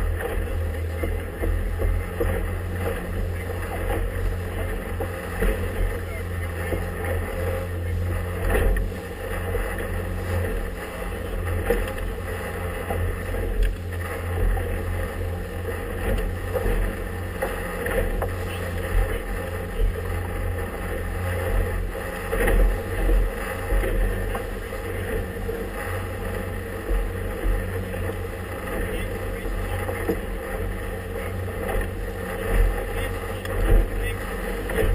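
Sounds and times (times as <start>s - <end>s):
hull thumping on waves: 0.0s - 34.9s
motorboat engine running: 0.0s - 34.9s.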